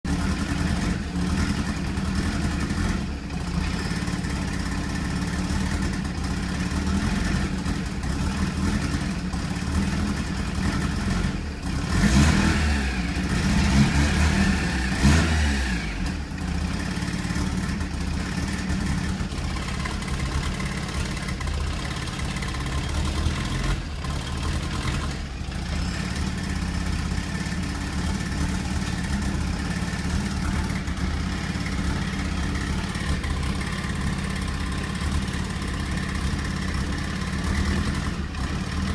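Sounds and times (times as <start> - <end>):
rotary engine idling roughly and revving: 0.0 - 38.9.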